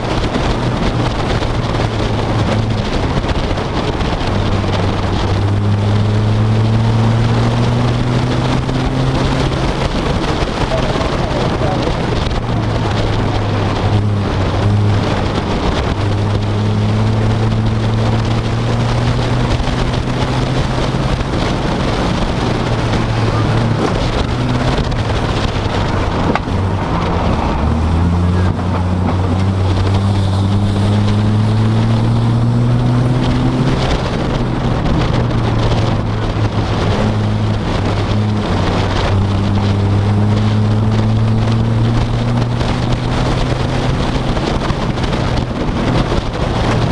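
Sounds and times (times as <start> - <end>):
road and wind noise: 0.0 - 46.9
vehicle engine droning: 0.0 - 46.9.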